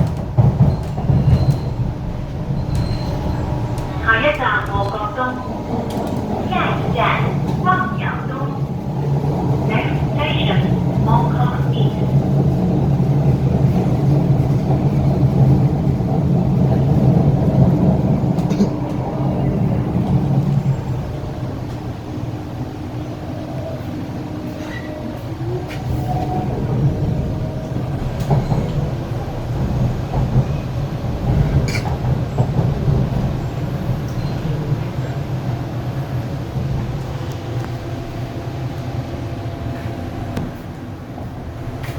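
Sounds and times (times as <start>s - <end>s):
train wheels rumbling: 0.0s - 41.9s.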